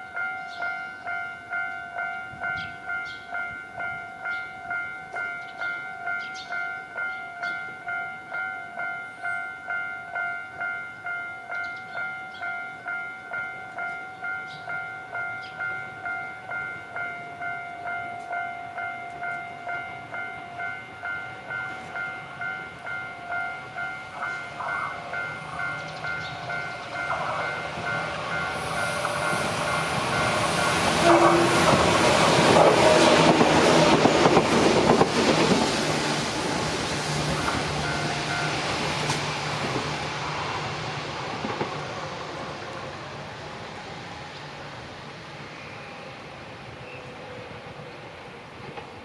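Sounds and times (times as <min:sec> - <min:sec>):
level crossing warning bell: 0:00.0 - 0:39.8
electric train passing: 0:00.0 - 0:49.0.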